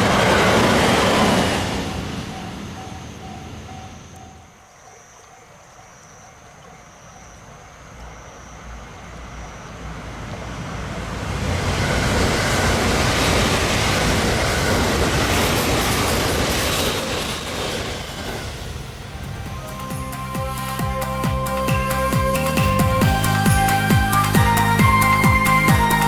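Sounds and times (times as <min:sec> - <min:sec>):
train passing close by: 0:00.0 - 0:26.0.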